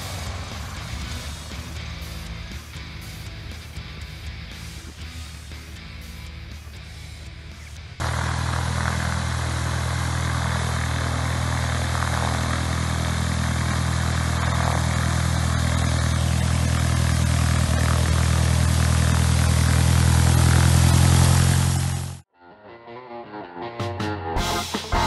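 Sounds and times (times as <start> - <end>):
propeller aircraft engine droning: 0.0 - 22.3.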